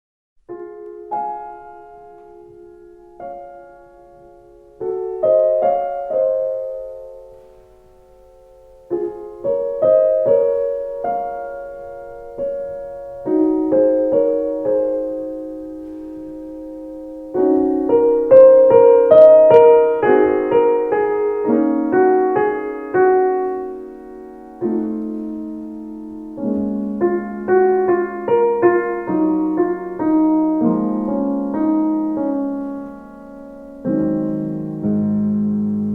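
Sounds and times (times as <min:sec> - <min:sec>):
slow solo piano music: 0:00.4 - 0:35.9.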